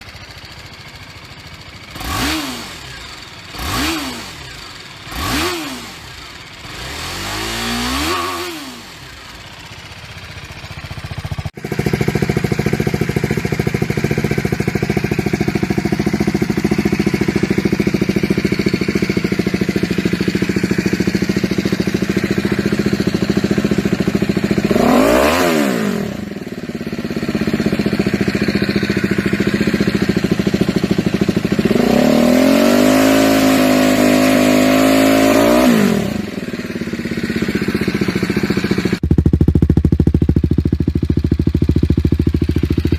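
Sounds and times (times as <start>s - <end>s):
motorcycle engine revving and idling: 0.0s - 42.9s.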